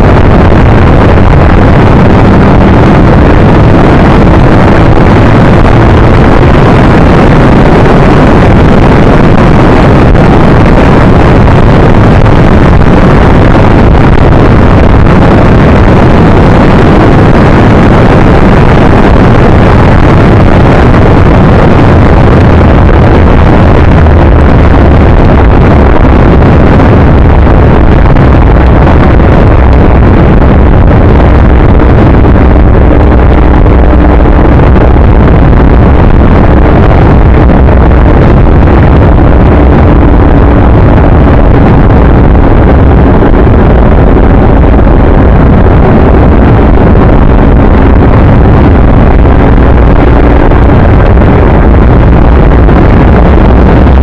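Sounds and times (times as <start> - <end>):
low vehicle drone: 0.0 - 54.0
wind buffeting microphone: 0.0 - 54.0.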